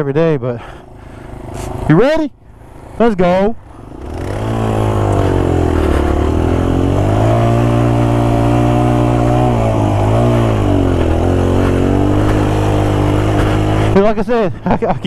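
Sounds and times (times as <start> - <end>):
motorcycle engine riding: 0.0 - 15.0.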